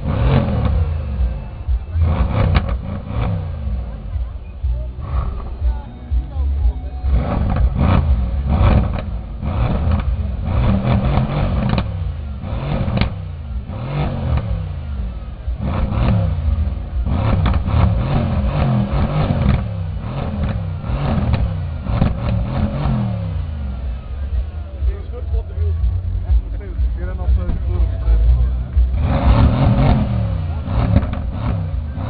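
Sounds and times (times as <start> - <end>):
exhaust cracks: 0.0 - 32.0
sports car engine revving: 0.0 - 32.0.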